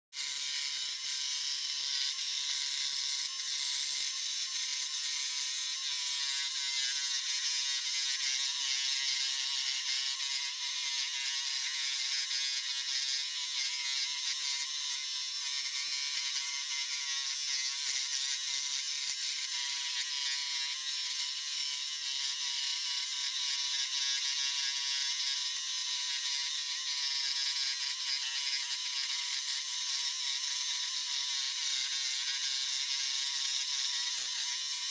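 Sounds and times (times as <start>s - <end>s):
scroll saw cutting wood: 0.1s - 34.9s.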